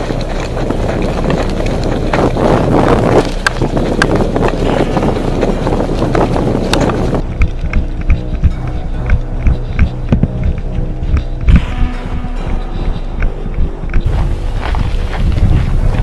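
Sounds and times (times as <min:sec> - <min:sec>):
footsteps: 0:00.0 - 0:16.0
gear rattling: 0:00.0 - 0:16.0
wind buffeting microphone: 0:00.0 - 0:16.0.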